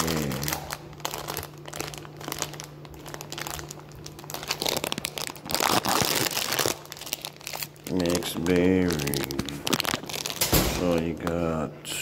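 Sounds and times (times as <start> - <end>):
plastic wrapper crinkling: 0.0 - 11.7.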